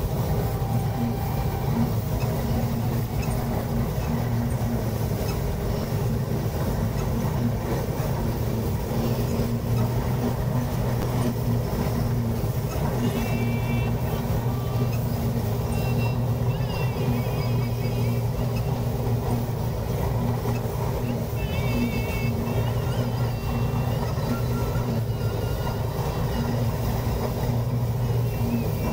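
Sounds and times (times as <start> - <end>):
combine harvester droning: 0.0 - 28.9.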